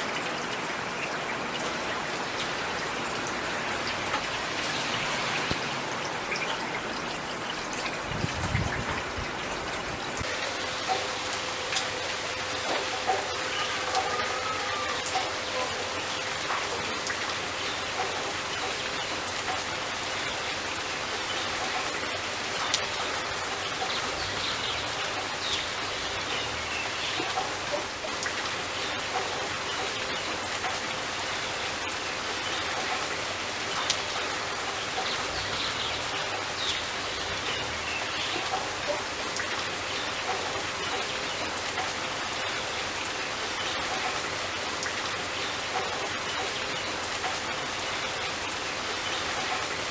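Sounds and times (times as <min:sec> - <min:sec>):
raindrops ticking: 0:00.0 - 0:12.0, 0:15.0 - 0:49.9
steady rain falling: 0:00.0 - 0:49.9.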